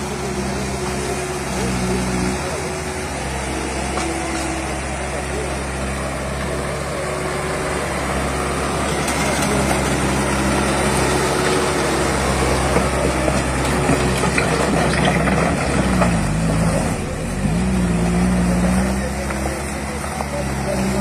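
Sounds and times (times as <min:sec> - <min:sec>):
diesel loader engine running: 0:00.0 - 0:21.0.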